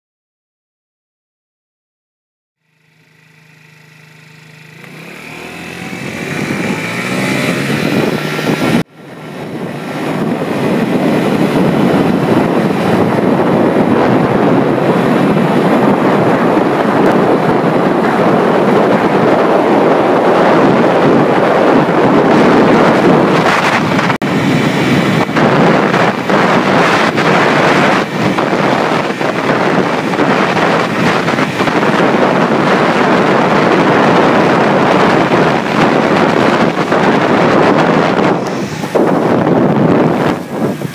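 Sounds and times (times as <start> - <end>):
scooter engine accelerating: 2.6 - 40.9
wind rush on microphone: 4.7 - 40.9.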